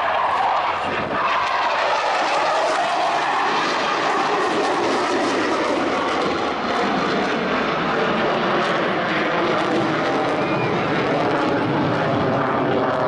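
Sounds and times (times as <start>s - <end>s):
airplane engine in flight: 0.0s - 13.0s.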